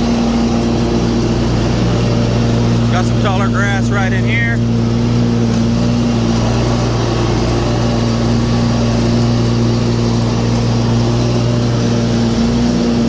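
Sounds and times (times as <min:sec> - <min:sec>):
lawn mower engine running: 0:00.0 - 0:13.0
mower blades cutting grass: 0:00.0 - 0:13.0.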